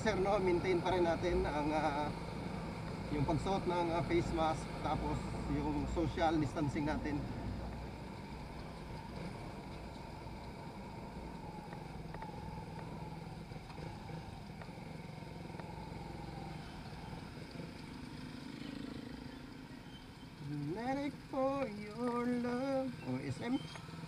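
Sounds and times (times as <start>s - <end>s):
motorcycle engine running: 0.0s - 24.0s
road noise: 0.0s - 24.0s.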